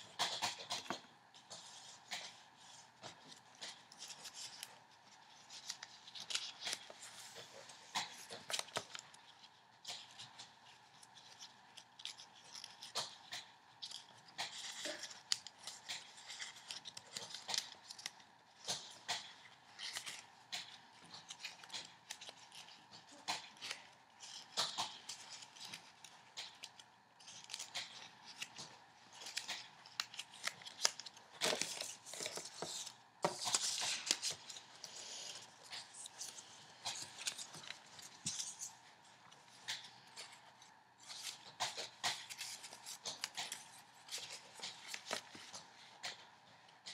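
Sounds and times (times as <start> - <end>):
paper folding rustle and crackle: 0.0 - 46.9.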